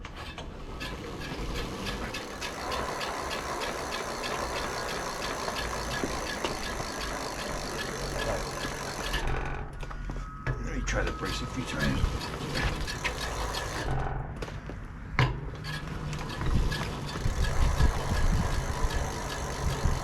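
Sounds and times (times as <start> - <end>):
bike wheel spinning hum: 0.0 - 9.5, 11.7 - 14.2, 15.6 - 20.0
rapid drivetrain ticking: 0.0 - 9.7, 11.2 - 14.6, 15.6 - 20.0.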